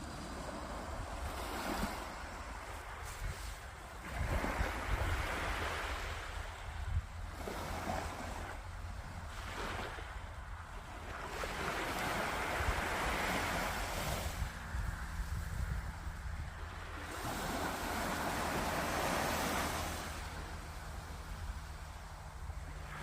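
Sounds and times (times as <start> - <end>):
surf washing onto beach: 0.0 - 15.8, 16.5 - 23.0
wind rumbling on microphone: 0.0 - 23.0.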